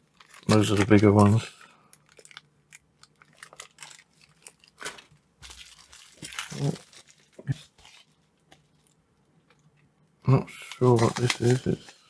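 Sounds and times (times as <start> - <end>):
plastic bags crinkling: 0.0 - 9.8, 10.5 - 12.0.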